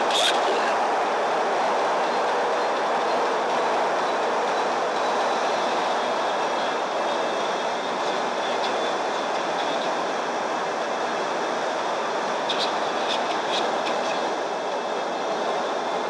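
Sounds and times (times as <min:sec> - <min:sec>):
train running noise inside car: 0:00.0 - 0:16.0.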